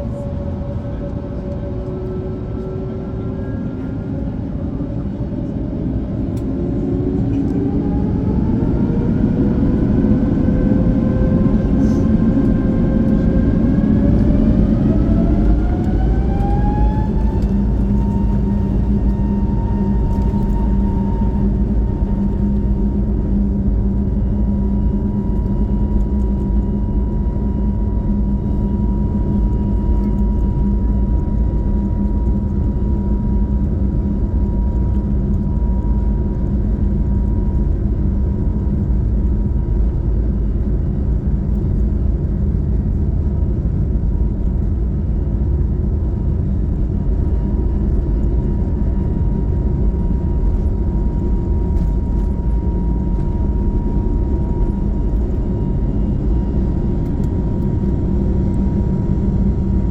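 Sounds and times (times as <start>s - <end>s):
engine and airflow rumble: 0.0s - 59.9s.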